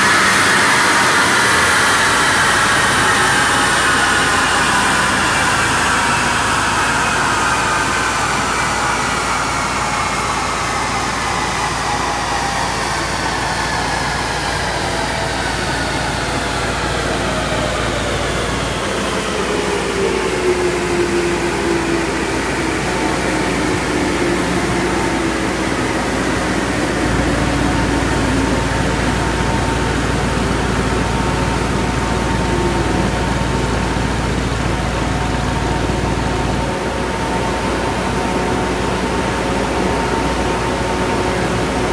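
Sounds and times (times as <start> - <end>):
drivetrain whine falling in pitch: 0.0 - 41.9
steady rushing noise: 0.0 - 41.9.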